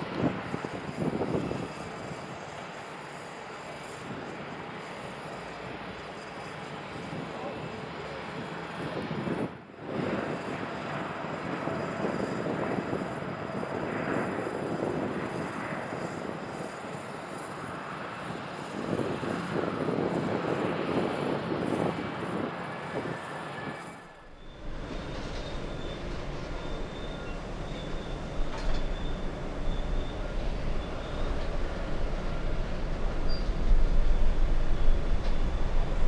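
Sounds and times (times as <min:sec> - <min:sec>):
jet engine roar: 0:00.0 - 0:36.0.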